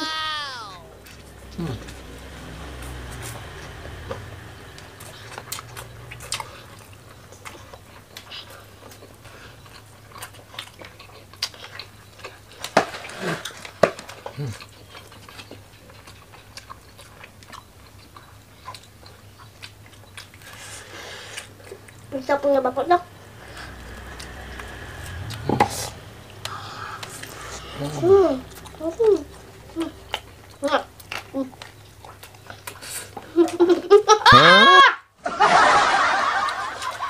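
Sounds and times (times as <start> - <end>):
low steady hum: 0.0 - 34.6
chewing and wet lip smacking: 1.0 - 33.8.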